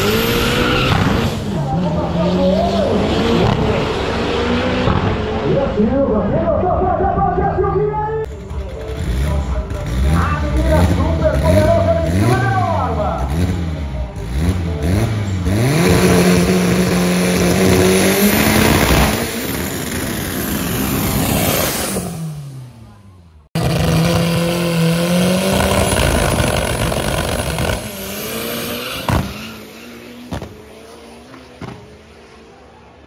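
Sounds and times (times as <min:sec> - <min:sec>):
drag racing car engines revving: 0:00.0 - 0:33.0.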